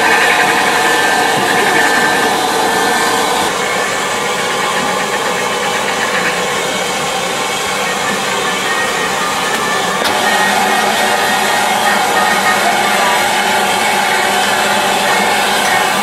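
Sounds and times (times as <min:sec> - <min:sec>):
idling railway engine: 0:00.0 - 0:16.0
locomotive steam hissing: 0:00.0 - 0:16.0.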